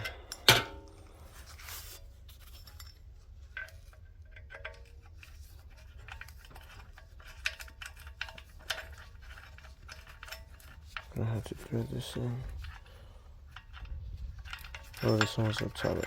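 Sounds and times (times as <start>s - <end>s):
clinks of metal tools and parts: 0.0s - 16.0s.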